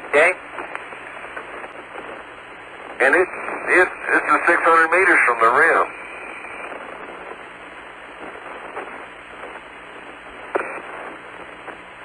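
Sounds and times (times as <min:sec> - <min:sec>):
radio crackle: 0:00.0 - 0:12.0
radio static hiss: 0:00.0 - 0:12.0.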